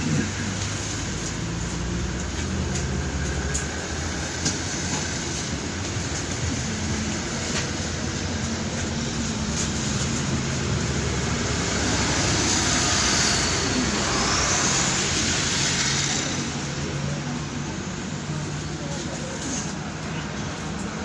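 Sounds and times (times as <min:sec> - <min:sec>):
tram rumble and hum: 0:00.0 - 0:21.0.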